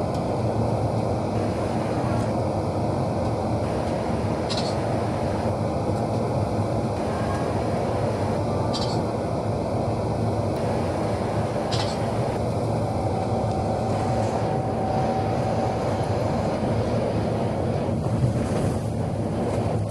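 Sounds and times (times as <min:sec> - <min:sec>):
bus engine and road noise: 0:00.0 - 0:19.9.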